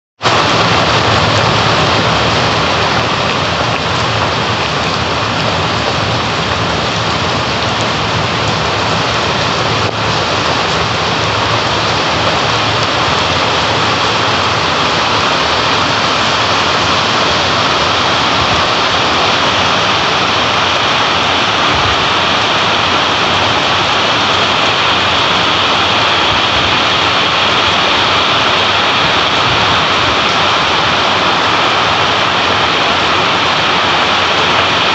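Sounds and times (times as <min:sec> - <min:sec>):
heavy rain on stone paving: 0:00.2 - 0:34.9.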